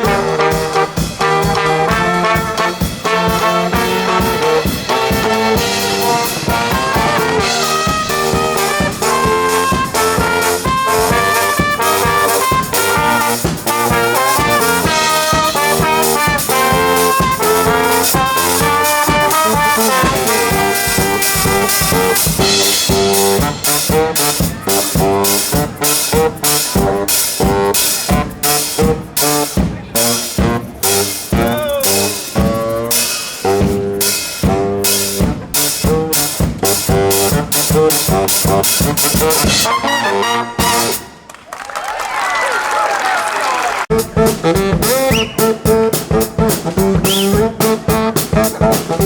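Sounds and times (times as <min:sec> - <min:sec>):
brass band playing: 0:00.0 - 0:41.4, 0:43.7 - 0:49.0.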